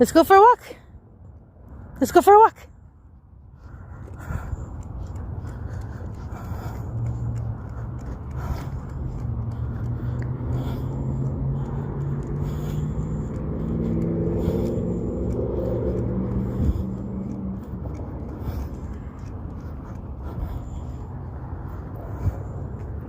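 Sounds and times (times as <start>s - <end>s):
engine humming: 2.8s - 23.0s.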